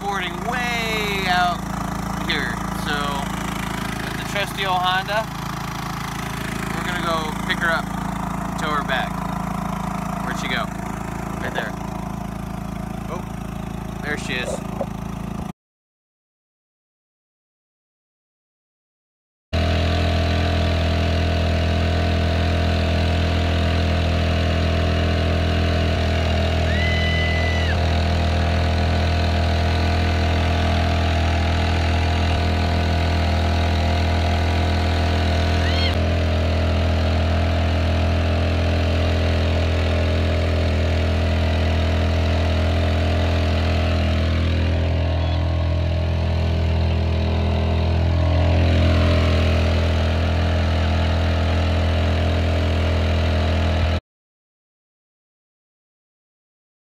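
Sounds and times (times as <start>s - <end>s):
outboard motor running steadily: 0.0s - 15.5s, 19.6s - 54.0s.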